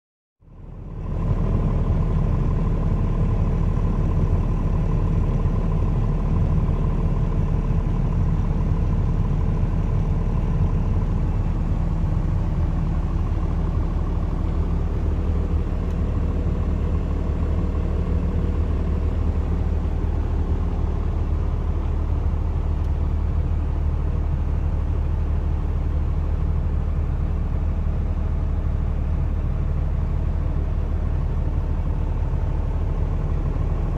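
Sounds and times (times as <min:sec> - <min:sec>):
diesel truck engine running: 0:00.4 - 0:33.9.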